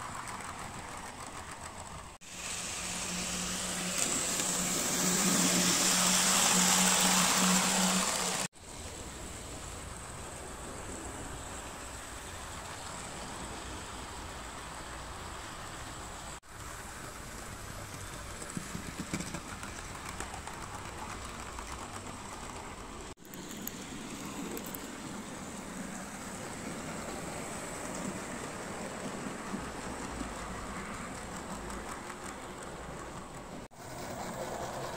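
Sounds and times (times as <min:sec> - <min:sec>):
model train wheels whirring on rails: 0:00.0 - 0:34.9.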